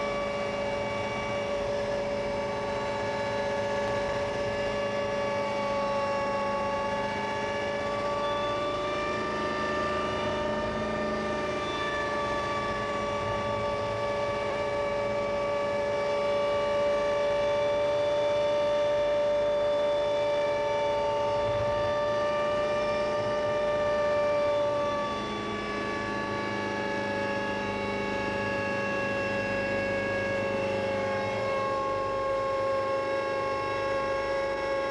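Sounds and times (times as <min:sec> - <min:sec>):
helicopter engine whine in flight: 0:00.0 - 0:34.9.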